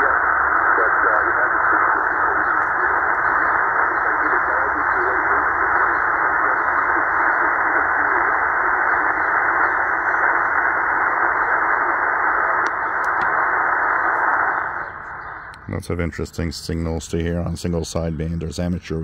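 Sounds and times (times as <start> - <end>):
radio static and hiss: 0.0 - 19.0.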